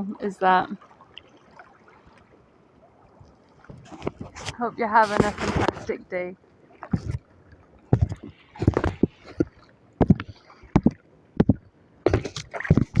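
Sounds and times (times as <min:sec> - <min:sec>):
water splashing around kayak: 0:00.0 - 0:13.0.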